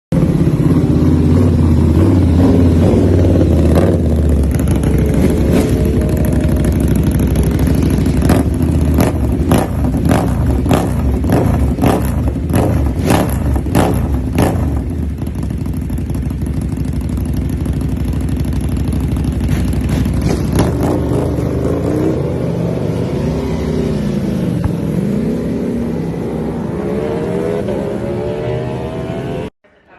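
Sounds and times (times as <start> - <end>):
motorcycle engine revving: 0.1 - 29.5.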